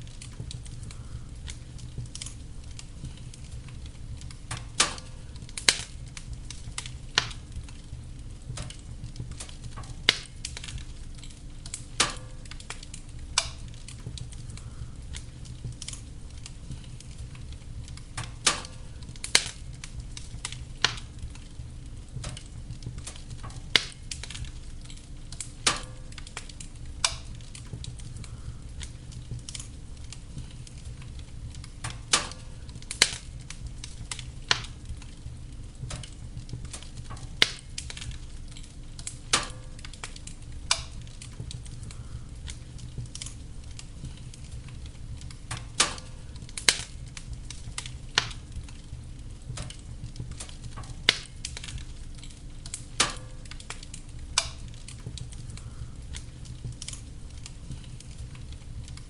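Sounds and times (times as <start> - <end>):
burning logs rumble and hiss: 0.0 - 59.0
fire popping: 0.0 - 59.0
wood fire crackling: 0.0 - 59.0.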